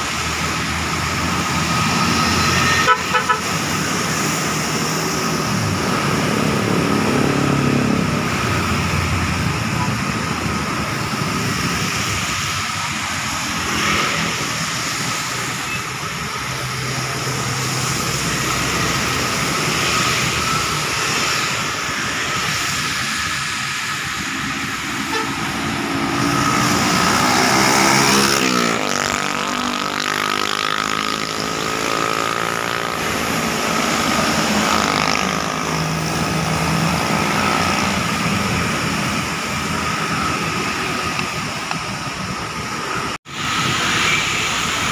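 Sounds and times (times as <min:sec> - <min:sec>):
bus engine passing close: 0:00.0 - 0:44.9
tyres hissing on wet road: 0:00.0 - 0:44.9
vehicle engines passing: 0:00.0 - 0:44.9.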